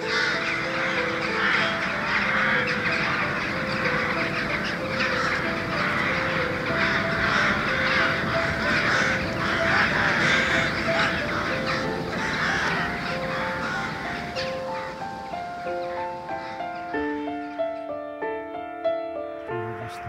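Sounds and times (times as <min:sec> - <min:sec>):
rooks cawing: 0:00.0 - 0:18.0
slow background music: 0:00.0 - 0:20.0.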